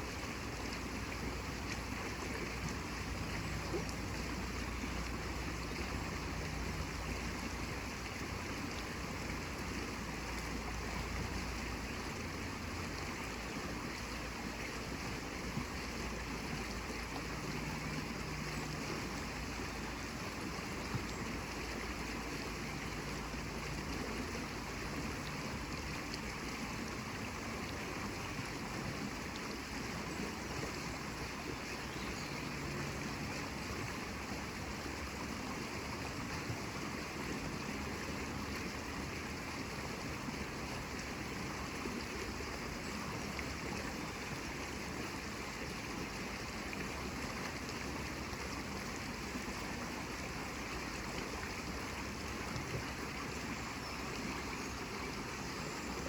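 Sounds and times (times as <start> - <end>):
flowing water hiss: 0.0 - 56.0.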